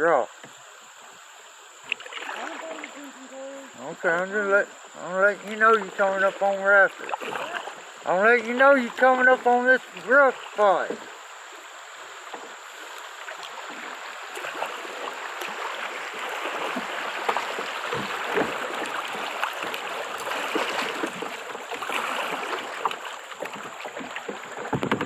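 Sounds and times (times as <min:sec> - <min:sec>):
kayak knocking and splashing: 0:01.8 - 0:25.0
water rushing over rapids: 0:01.8 - 0:25.0.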